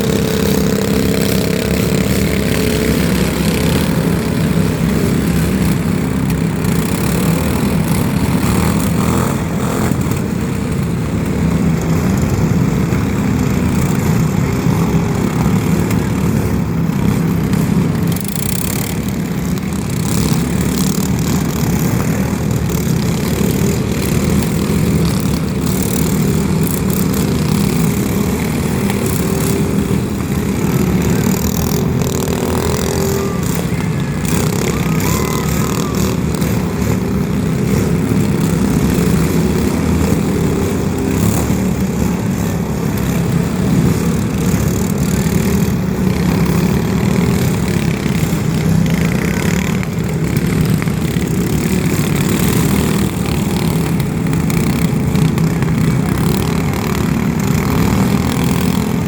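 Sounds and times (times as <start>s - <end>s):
heavy vehicle rumble: 0.0s - 59.0s.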